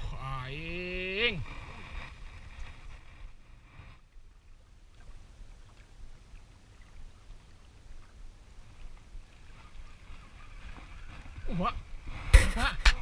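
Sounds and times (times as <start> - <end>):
light water noise: 0.0 - 13.0.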